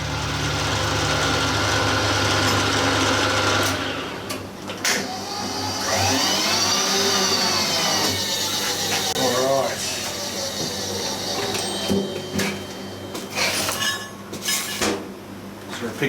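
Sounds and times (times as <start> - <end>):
milling machine running: 0.0 - 4.4, 5.0 - 13.8.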